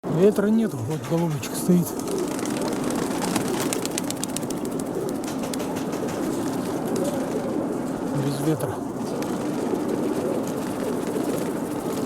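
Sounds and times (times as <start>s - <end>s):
pigeons cooing: 0.5s - 12.0s.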